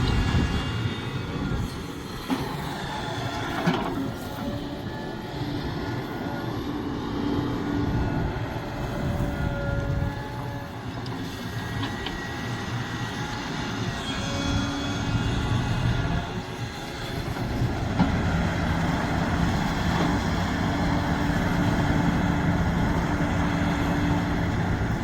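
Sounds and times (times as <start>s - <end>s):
excavator diesel engine running: 0.0s - 25.0s
metallic whines and squeals: 0.0s - 25.0s.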